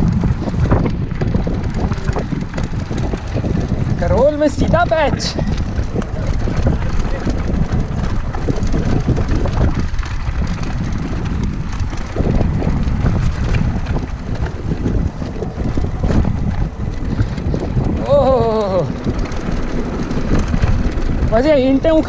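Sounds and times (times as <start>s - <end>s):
bike rattling over brick paving: 0.0s - 22.0s
wind buffeting microphone: 0.0s - 22.0s.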